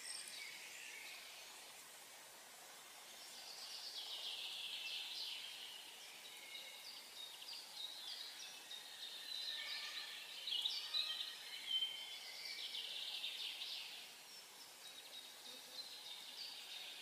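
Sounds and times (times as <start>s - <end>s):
small birds chirping and singing: 0.0s - 17.0s.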